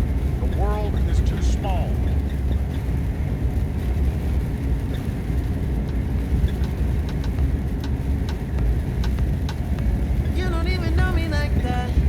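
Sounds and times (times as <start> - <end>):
truck engine and road rumble: 0.0 - 12.0
faint clicks: 0.2 - 12.0.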